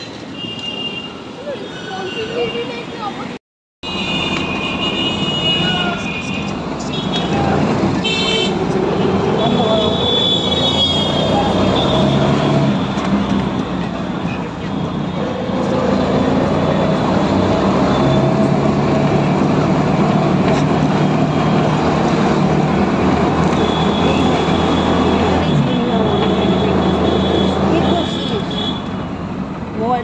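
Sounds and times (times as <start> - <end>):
road noise: 0.0 - 30.0
auto-rickshaw engine running: 5.6 - 30.0.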